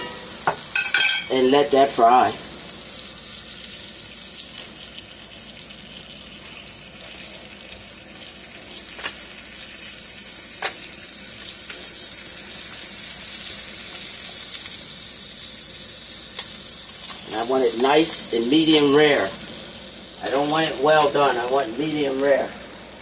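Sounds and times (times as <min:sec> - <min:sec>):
steak sizzling in a pan: 0:00.0 - 0:23.0.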